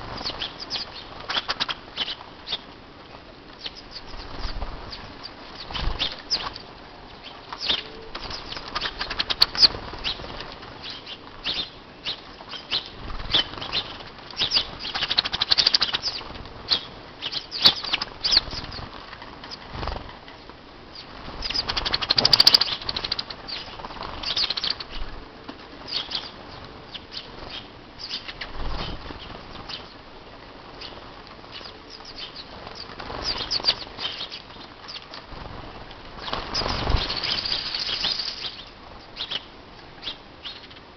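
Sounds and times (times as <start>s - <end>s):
birds wings flapping: 0.0s - 2.7s, 3.5s - 39.1s
small birds chirping: 0.0s - 25.2s, 25.8s - 40.9s.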